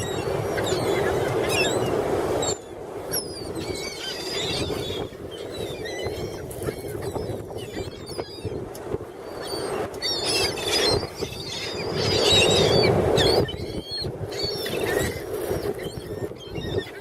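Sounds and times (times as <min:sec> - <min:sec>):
seagulls calling: 0:00.0 - 0:17.0
wind on microphone: 0:00.0 - 0:17.0.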